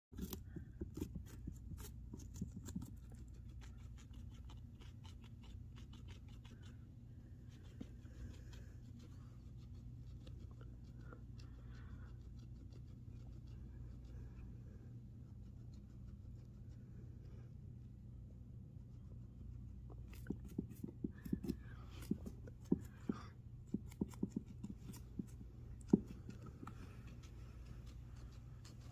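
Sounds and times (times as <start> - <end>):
pet crunching carrot: 0.1 - 16.9, 19.5 - 28.9
low steady hum: 0.1 - 28.9.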